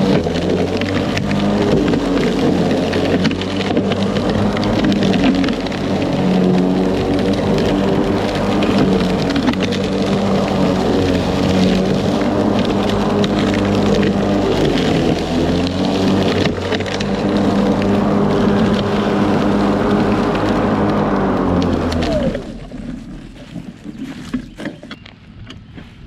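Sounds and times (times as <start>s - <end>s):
electric lawn mower running: 0.0s - 24.8s
debris striking mower deck: 0.0s - 25.1s.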